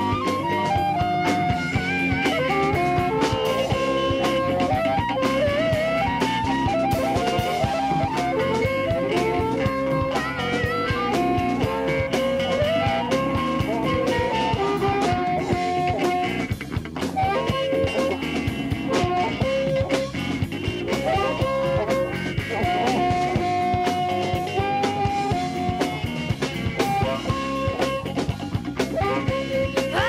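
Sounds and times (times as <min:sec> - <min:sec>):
blues-rock lead guitar: 0:00.0 - 0:30.0
drum kit: 0:00.0 - 0:30.0.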